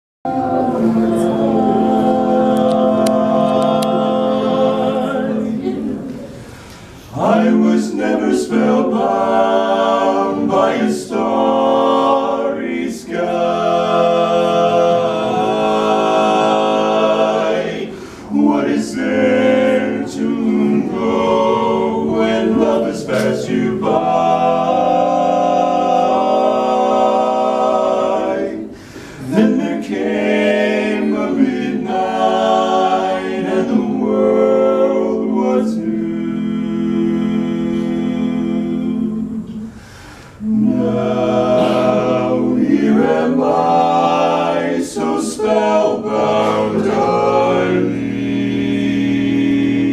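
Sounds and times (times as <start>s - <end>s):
male quartet singing a cappella: 0.3s - 49.9s.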